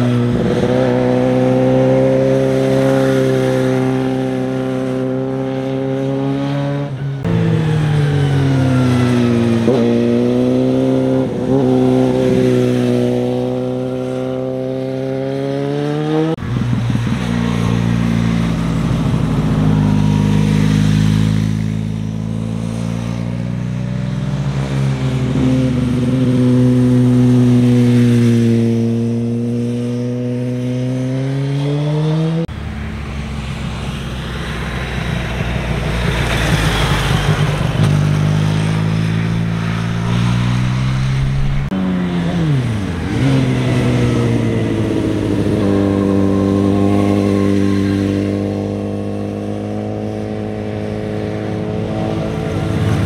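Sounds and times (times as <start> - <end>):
motorcycle engines passing: 0.0 - 53.0.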